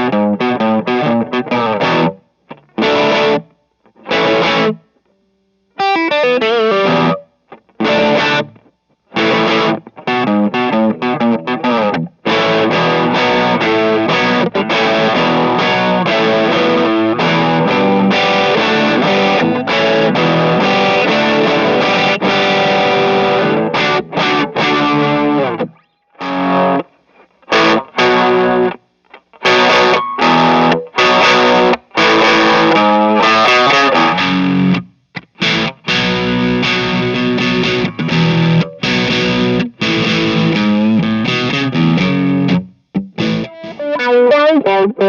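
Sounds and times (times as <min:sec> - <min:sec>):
distorted electric guitar rock riff: 0:00.0 - 0:45.0.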